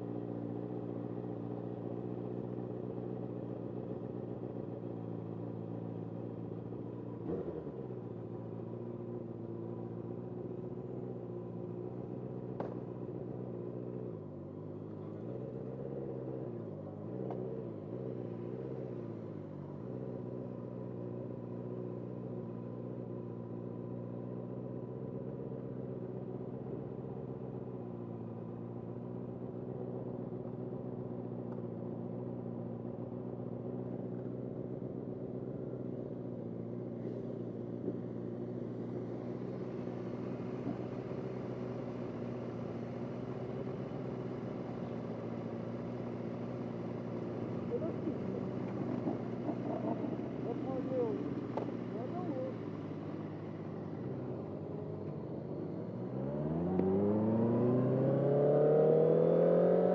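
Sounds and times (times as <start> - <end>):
motorcycle engine idling: 0.0 - 7.2, 7.8 - 56.0.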